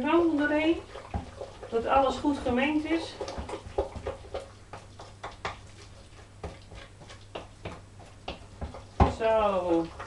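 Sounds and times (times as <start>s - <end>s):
utensil stirring in metal bowl: 0.0s - 10.0s.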